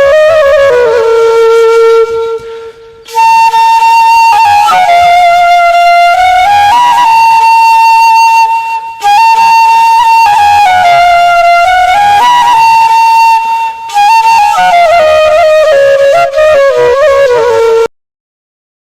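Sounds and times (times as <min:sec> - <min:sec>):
flute-like wind melody: 0:00.0 - 0:17.9.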